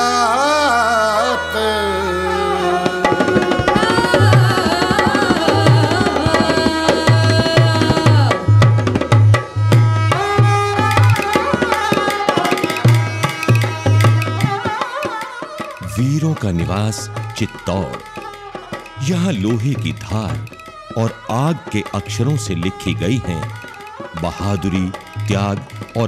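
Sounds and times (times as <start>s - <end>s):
instrumental melody: 1.3s - 26.0s
hand drums beating: 2.8s - 26.0s.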